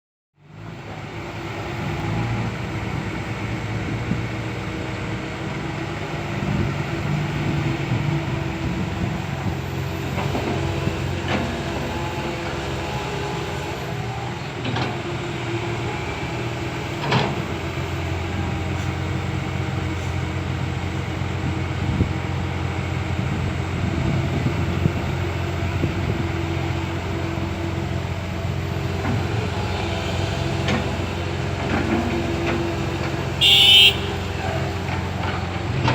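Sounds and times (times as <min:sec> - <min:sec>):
excavator diesel engine running: 0:00.5 - 0:35.9.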